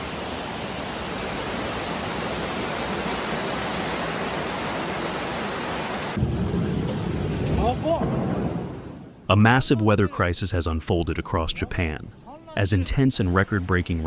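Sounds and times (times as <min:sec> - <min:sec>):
heavy rain hissing: 0:00.0 - 0:14.0
rushing water: 0:00.0 - 0:14.0.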